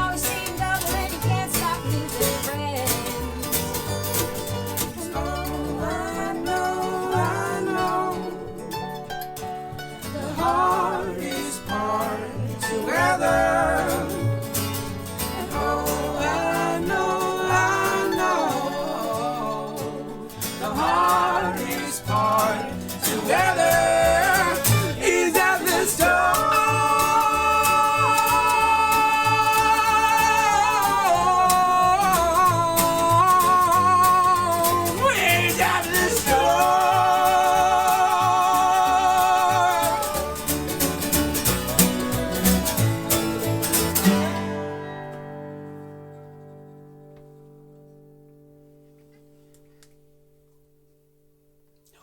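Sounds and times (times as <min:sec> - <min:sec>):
person singing: 0:00.0 - 0:44.6
acoustic guitar: 0:00.0 - 0:52.0.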